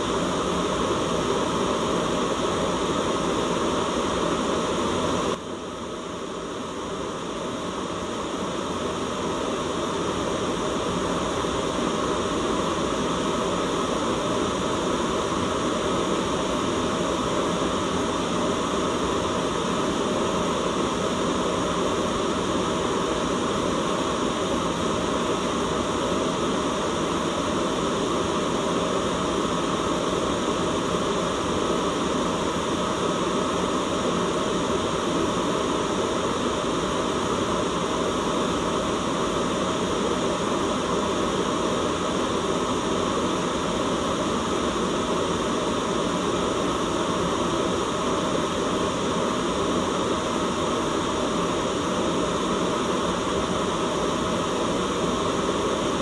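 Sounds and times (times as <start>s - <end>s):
steady rushing hiss noise: 0.0s - 56.0s.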